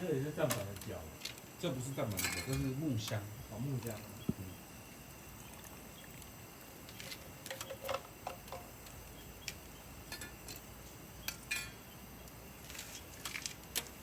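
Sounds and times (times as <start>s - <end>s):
firewood crackling and popping: 0.0s - 14.0s
low steady hiss: 0.0s - 14.0s.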